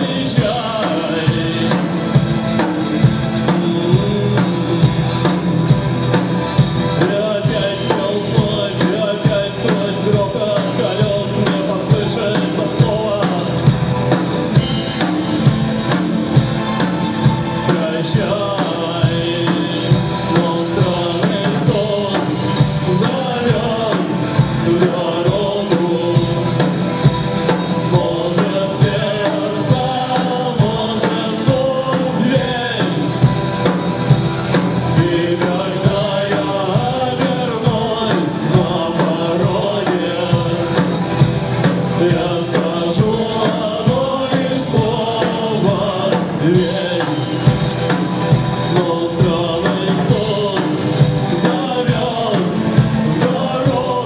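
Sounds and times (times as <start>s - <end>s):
drum kit beat: 0.0s - 54.0s
live rock band playing: 0.0s - 54.0s.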